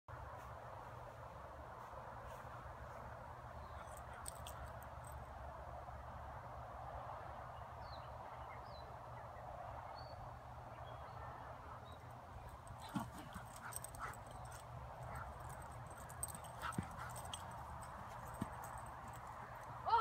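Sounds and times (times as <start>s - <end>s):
outdoor background noise: 0.1s - 20.0s.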